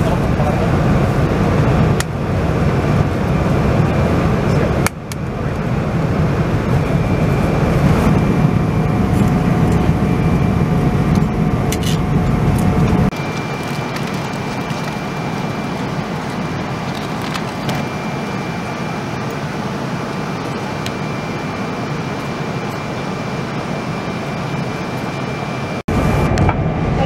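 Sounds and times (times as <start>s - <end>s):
airplane cabin noise: 0.0s - 27.0s
faint high whine: 0.0s - 27.0s.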